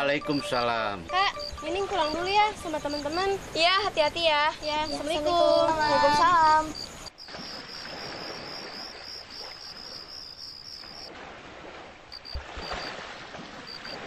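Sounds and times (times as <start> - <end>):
crickets chirping: 0.0 - 11.2, 12.1 - 14.0.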